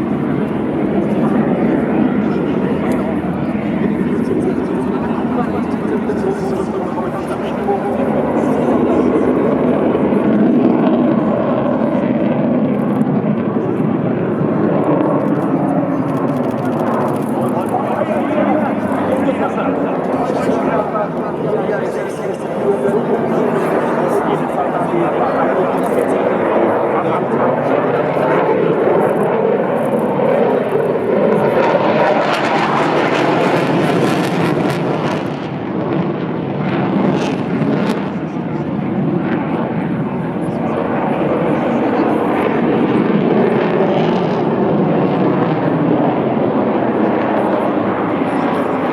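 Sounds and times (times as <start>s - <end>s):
jet engine running: 0.0s - 48.9s.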